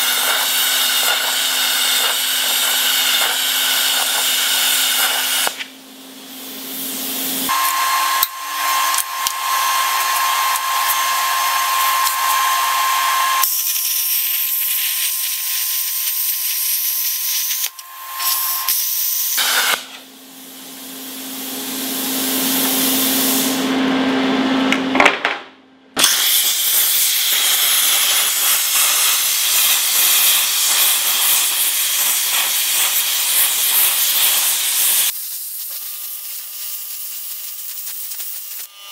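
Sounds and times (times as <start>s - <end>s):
plasma cutter hissing: 0.0s - 23.6s, 26.0s - 38.9s.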